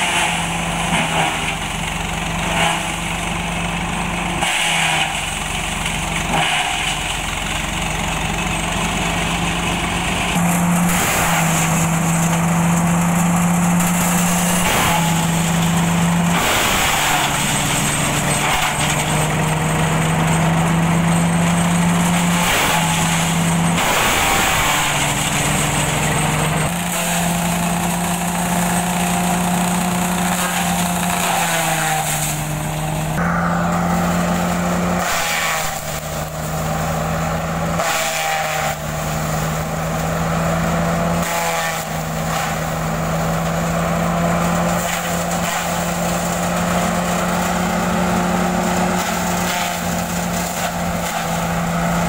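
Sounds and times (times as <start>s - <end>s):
shredder shredding fronds: 0.0s - 52.0s
tractor diesel engine running: 0.0s - 52.0s.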